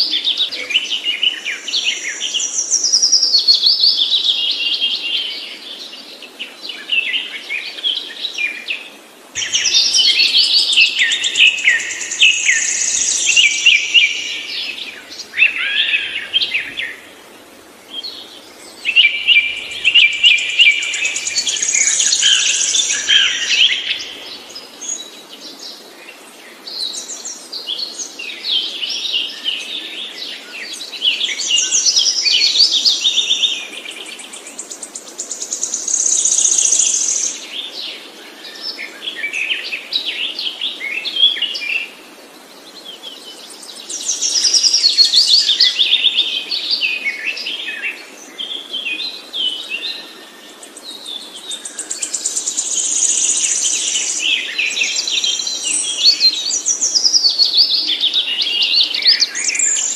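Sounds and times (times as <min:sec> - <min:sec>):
songbird chirps and trills: 0:09.4 - 0:59.9.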